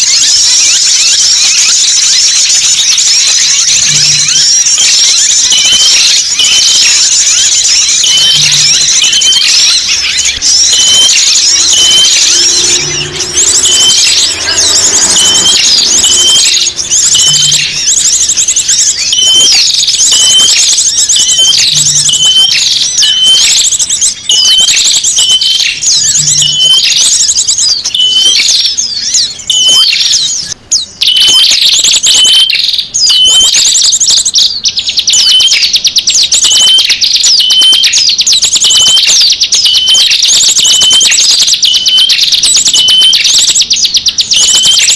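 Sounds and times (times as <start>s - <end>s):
small birds twittering and trilling: 0.0s - 44.9s.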